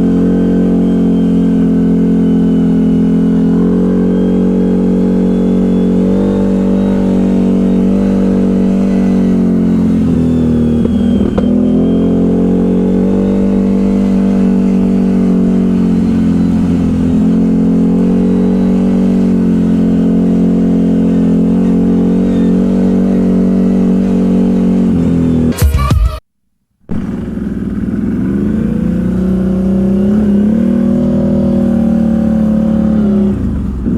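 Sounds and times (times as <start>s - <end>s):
atv engine running: 0.0s - 26.0s, 26.8s - 33.9s.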